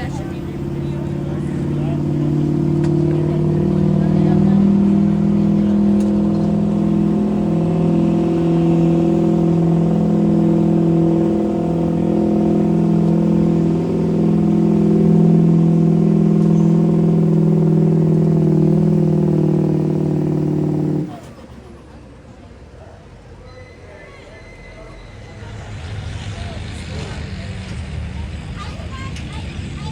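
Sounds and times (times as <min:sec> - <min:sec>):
vehicle engine running hard: 0:00.0 - 0:23.2, 0:25.2 - 0:29.9.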